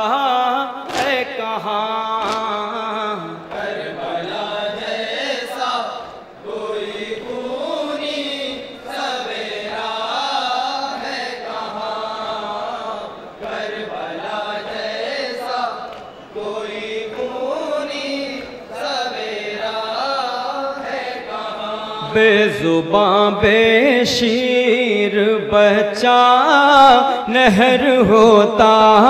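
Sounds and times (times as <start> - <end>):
men chanting together: 0.0 - 24.4.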